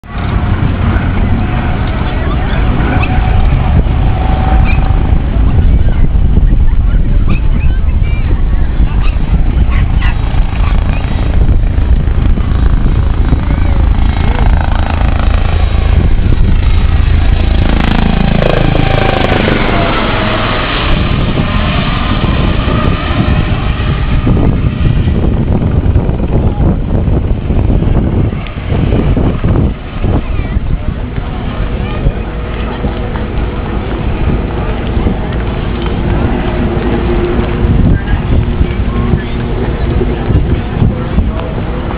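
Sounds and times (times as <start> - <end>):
helicopter rotor thrum: 0.1 - 8.0, 8.6 - 41.9
thin steady whine: 7.9 - 41.9.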